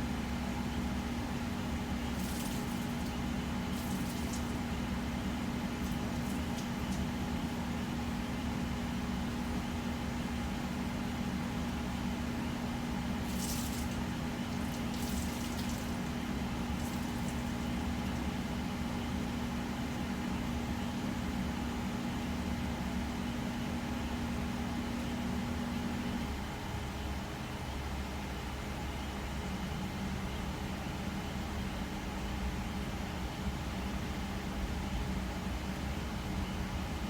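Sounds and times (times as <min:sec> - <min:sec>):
pumps and fans humming: 0:00.0 - 0:37.0.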